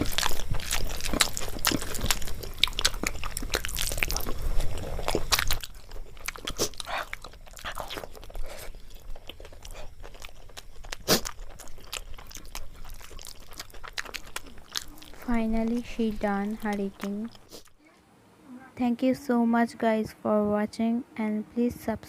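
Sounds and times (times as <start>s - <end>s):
crunchy bites: 0.0s - 17.8s
close-miked chewing: 0.0s - 18.0s.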